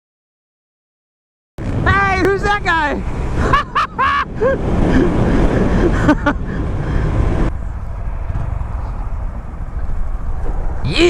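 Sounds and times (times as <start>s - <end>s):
wind on microphone: 1.6s - 11.0s.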